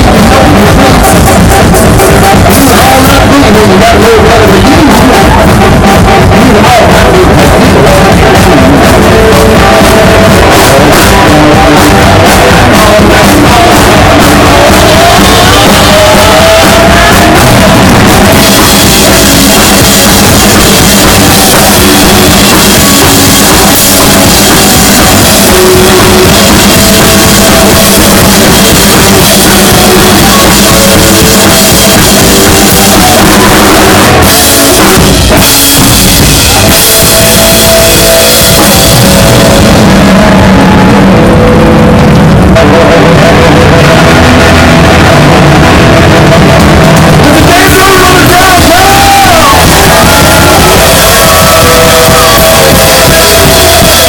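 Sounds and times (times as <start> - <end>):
loud live blues-rock band: 0.0 - 54.0.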